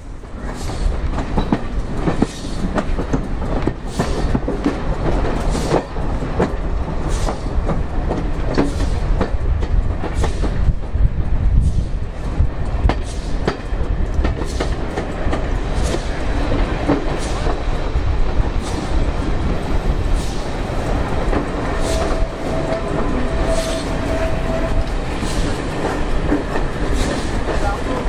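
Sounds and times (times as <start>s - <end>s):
train carriage rumble: 0.0s - 28.0s
wheels clacking over rail joints: 0.0s - 28.0s.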